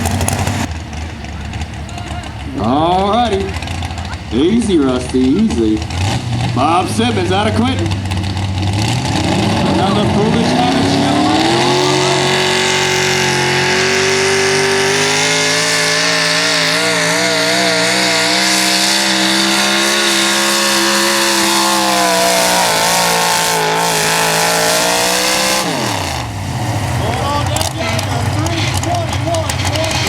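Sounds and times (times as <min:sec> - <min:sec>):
truck engine at high revs: 0:00.0 - 0:30.0.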